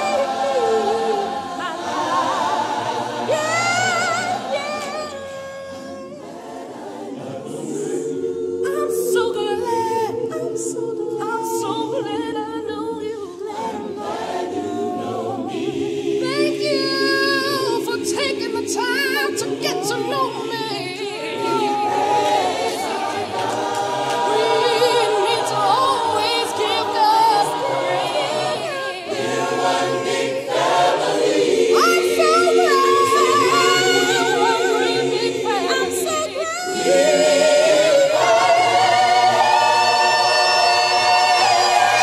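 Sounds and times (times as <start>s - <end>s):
choir singing a cappella: 0.0s - 42.0s.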